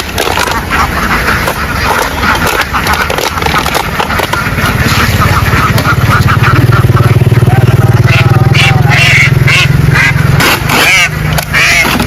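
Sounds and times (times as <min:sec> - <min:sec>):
engine running: 0:00.0 - 0:12.0
flock of ducks quacking: 0:00.0 - 0:12.0.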